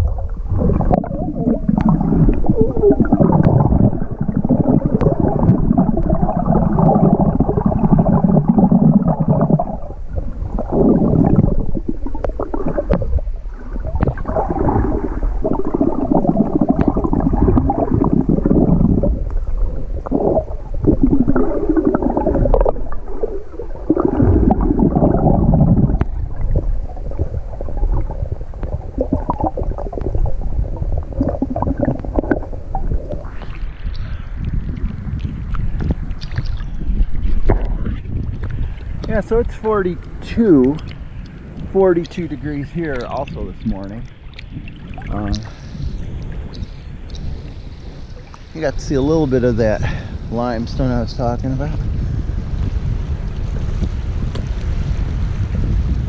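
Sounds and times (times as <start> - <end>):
muffled underwater sloshing: 0.0 - 56.0.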